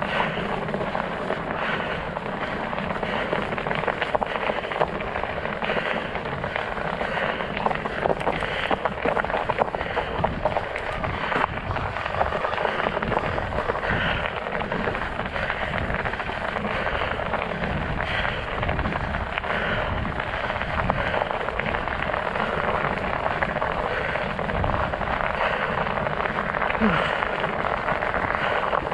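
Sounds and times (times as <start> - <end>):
studded bike tires crunching on ice: 0.0 - 28.9.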